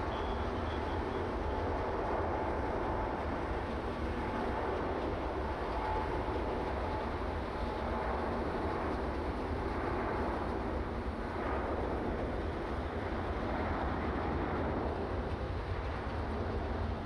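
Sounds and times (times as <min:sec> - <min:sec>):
jet engines rumbling at low power: 0:00.0 - 0:17.0.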